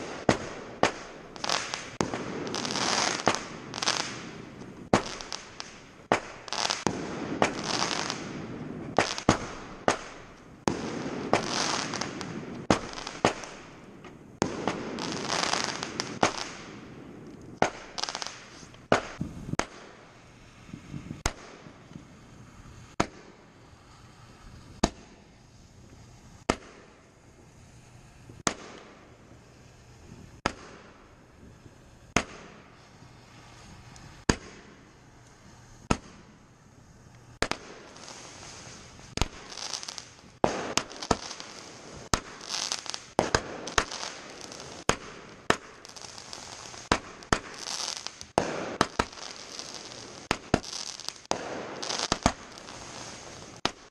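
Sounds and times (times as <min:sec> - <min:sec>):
firework bangs: 0:00.0 - 0:53.9
firework crackling: 0:00.0 - 0:53.9.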